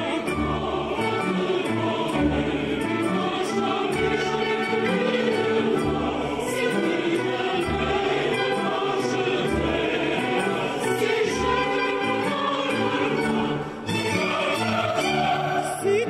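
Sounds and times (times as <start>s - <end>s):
choir singing: 0.0s - 16.0s
orchestra strings: 0.0s - 16.0s.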